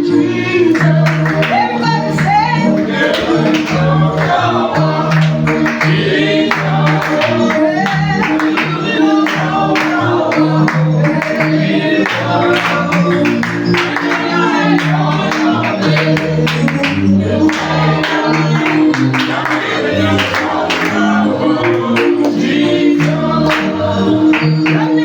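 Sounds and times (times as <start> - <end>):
gospel group singing with band: 0.0 - 25.0.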